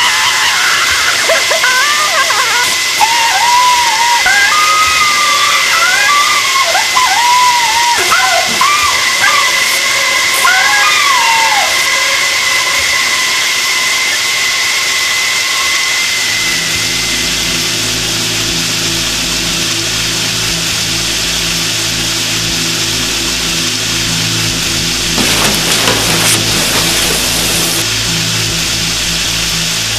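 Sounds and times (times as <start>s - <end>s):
shower spraying water: 0.0s - 29.8s
low steady drone: 0.0s - 29.9s.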